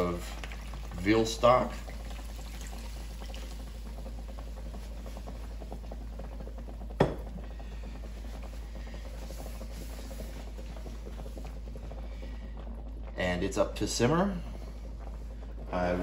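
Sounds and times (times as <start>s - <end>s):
liquid bubbling in pot: 0.0s - 16.0s.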